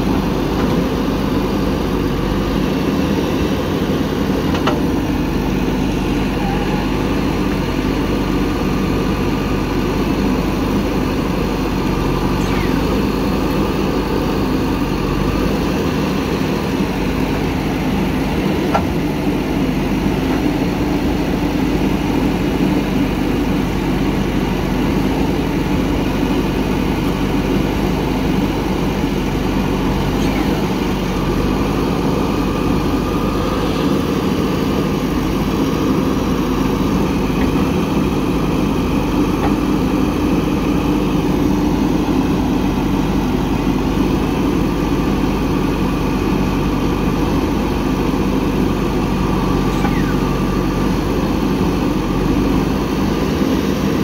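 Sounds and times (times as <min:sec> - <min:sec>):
diesel engine running steadily: 0:00.0 - 0:54.0.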